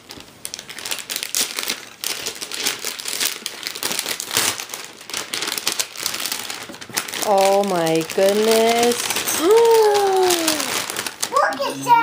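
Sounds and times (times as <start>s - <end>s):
wrapping paper ripping and crinkling: 0.0s - 12.0s.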